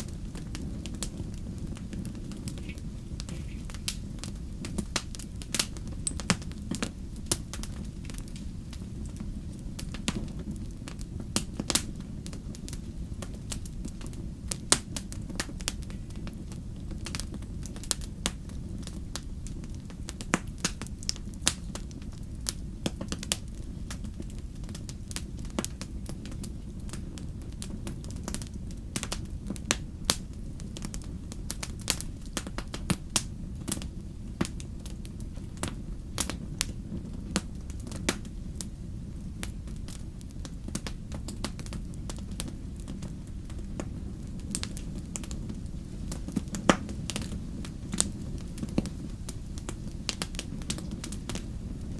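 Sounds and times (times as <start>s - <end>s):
fire crackling and popping: 0.0s - 51.9s
low rumble of flames: 0.0s - 51.9s.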